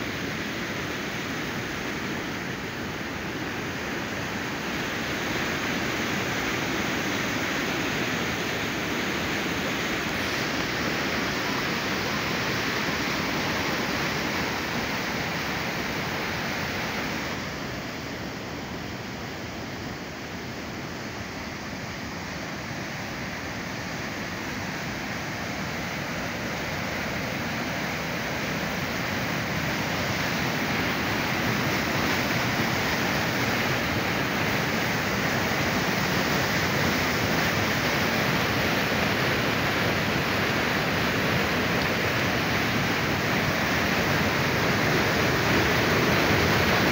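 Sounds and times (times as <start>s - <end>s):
white water rushing: 0.0s - 46.9s.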